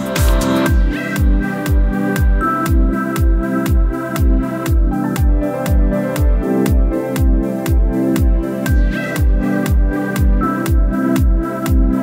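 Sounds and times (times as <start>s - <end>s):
heavy kick drum beat: 0.0s - 12.0s.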